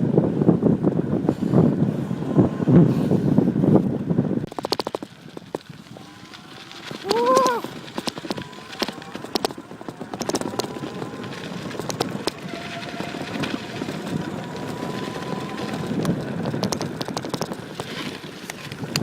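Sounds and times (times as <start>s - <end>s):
faint electric motor whine: 0.0s - 19.0s
wind and rolling noise: 0.0s - 19.0s
bicycle clicks and rattles: 3.1s - 19.0s.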